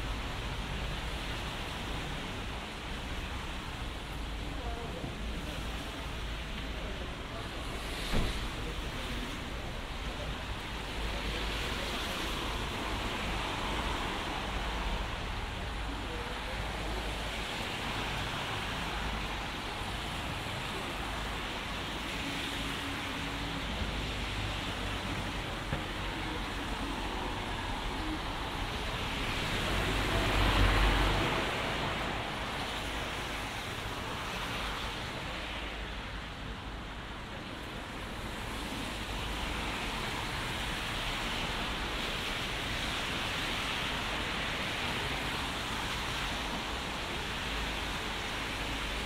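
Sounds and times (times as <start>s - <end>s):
bus passing with low rumble: 0.0s - 49.0s
rain: 0.0s - 49.0s
traffic on wet roads: 0.0s - 49.0s.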